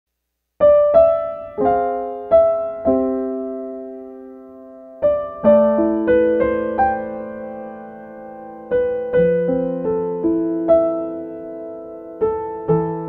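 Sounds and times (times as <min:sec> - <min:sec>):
gentle piano music: 0:00.6 - 0:13.0.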